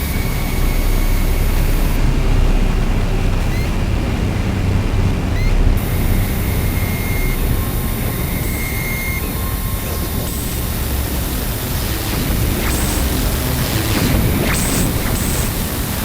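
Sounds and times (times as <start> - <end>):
dark ambient noise drone: 0.0 - 16.0.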